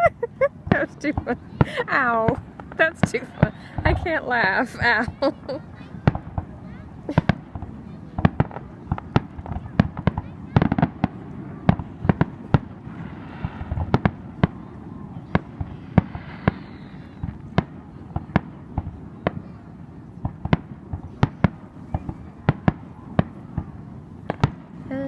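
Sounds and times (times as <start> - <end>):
firework bangs: 0.0 - 25.0
steady low rumble: 0.0 - 25.0.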